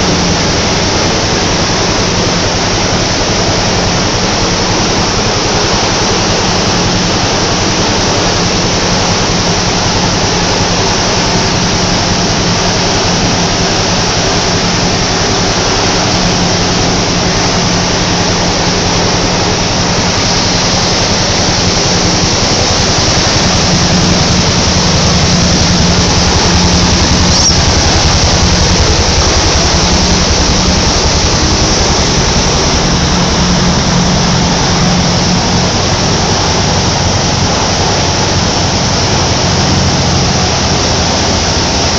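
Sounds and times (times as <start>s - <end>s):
machinery running with low hum: 0.0s - 41.9s.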